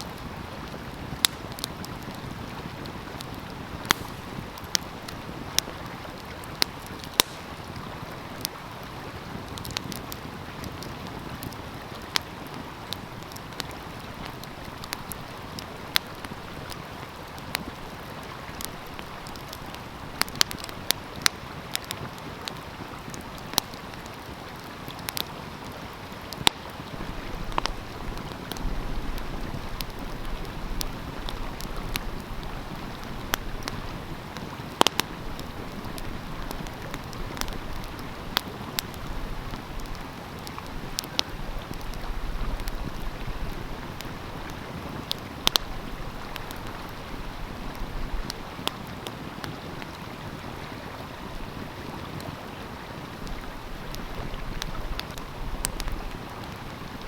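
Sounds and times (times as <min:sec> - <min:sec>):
flowing stream: 0:00.0 - 0:57.0
wood fire crackling: 0:00.0 - 0:57.0.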